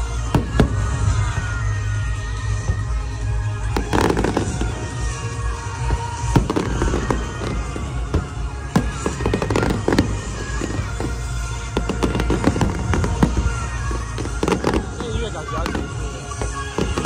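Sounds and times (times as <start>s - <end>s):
fireworks bangs and crackling: 0.0s - 17.0s
music: 0.0s - 17.0s.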